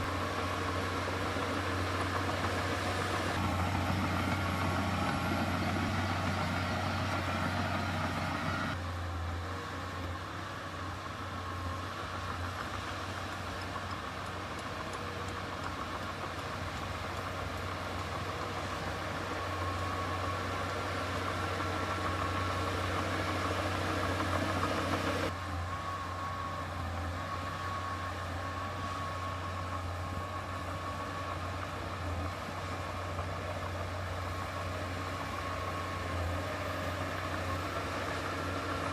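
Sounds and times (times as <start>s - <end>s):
diesel engine running: 0.0s - 8.8s, 10.5s - 38.9s.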